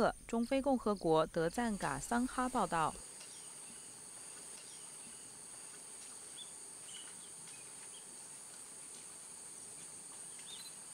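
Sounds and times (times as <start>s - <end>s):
high-pitched insect chorus: 0.2s - 10.9s.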